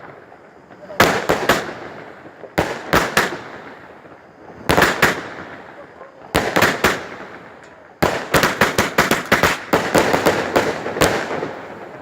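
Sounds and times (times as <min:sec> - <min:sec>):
firecrackers cracking: 0:00.0 - 0:12.0.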